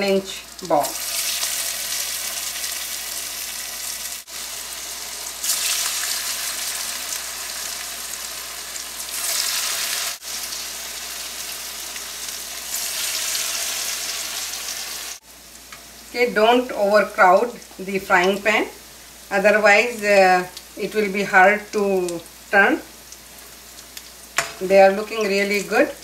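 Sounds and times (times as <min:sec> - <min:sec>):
batter deep-frying in oil: 0:00.0 - 0:26.0.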